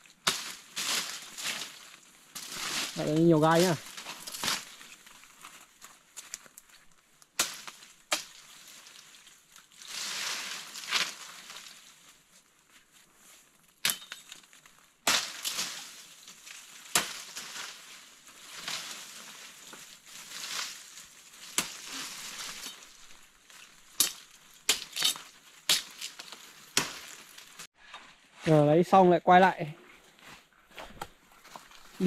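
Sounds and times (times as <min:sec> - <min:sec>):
rustling and snapping leaves: 0:00.0 - 0:27.7.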